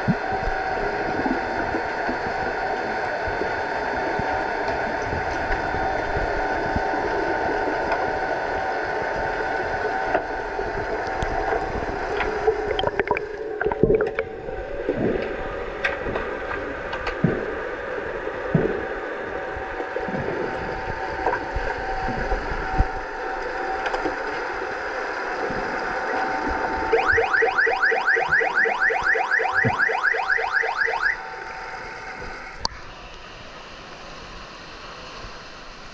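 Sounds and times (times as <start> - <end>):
bubbling and swishing fins: 0.0 - 30.2
steady underwater hum: 0.0 - 35.9.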